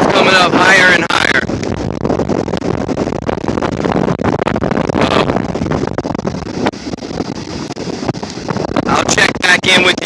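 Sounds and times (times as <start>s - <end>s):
heavy surf breaking: 0.0s - 10.0s
wind buffeting microphone: 0.0s - 10.0s.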